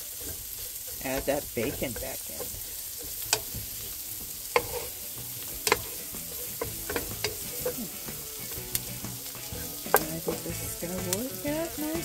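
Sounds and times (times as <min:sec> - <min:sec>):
food sizzling in frying pan: 0:00.0 - 0:12.0
wooden spoon tapping pan: 0:00.0 - 0:12.0.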